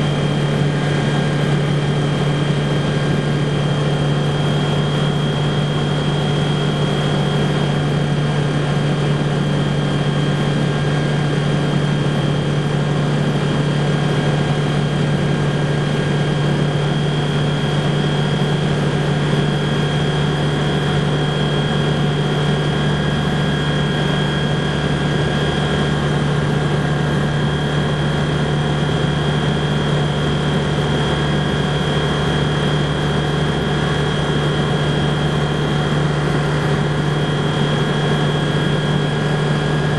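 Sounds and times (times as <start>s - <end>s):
plane engine and propeller droning: 0.0s - 39.9s.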